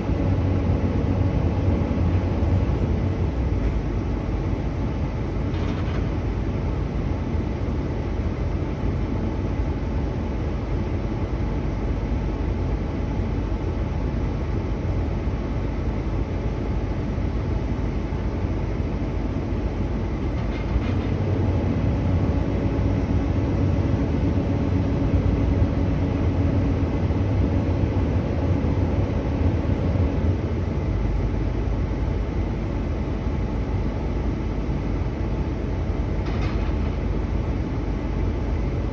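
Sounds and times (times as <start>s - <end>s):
heavy engine rumbling: 0.0s - 14.6s, 15.3s - 38.9s.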